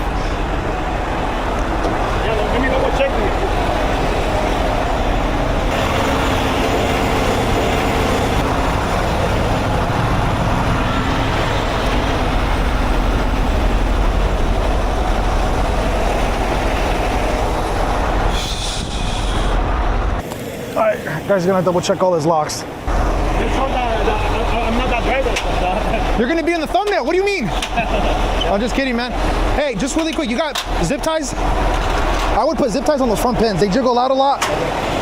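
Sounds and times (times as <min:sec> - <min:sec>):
diesel truck engine running: 0:00.0 - 0:20.3, 0:22.7 - 0:35.0.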